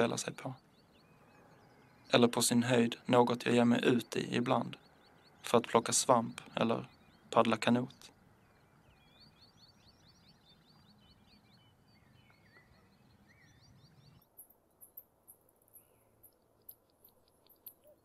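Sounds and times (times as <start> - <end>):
faint birdsong chirps: 0.0 - 18.0
low outdoor background: 0.0 - 18.0.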